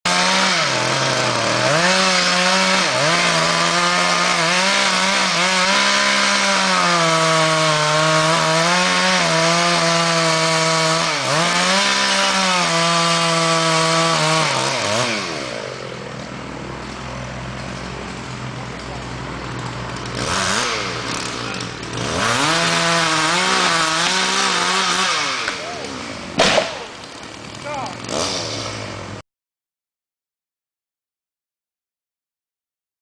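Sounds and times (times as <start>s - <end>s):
chainsaw cutting wood: 0.1s - 29.2s.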